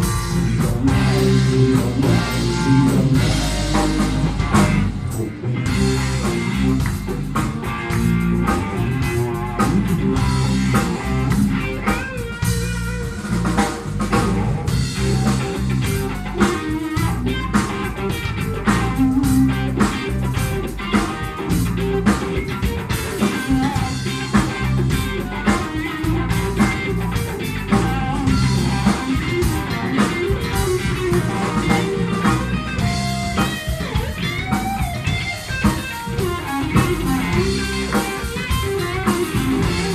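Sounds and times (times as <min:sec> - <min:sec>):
drum kit: 0:00.0 - 0:39.9
electric bass: 0:00.0 - 0:39.9
electric guitar melody: 0:00.0 - 0:39.9.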